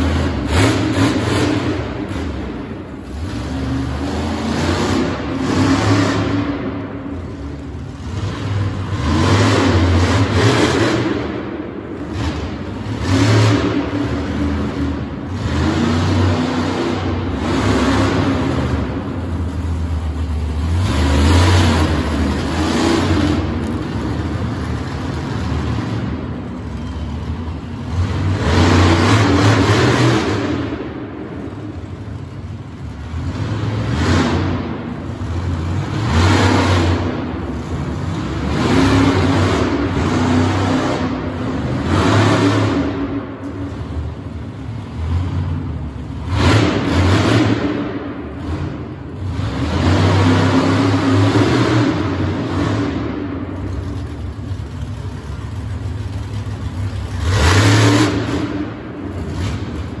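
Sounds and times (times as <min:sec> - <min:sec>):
monster truck engine revving: 0:00.0 - 1:00.0.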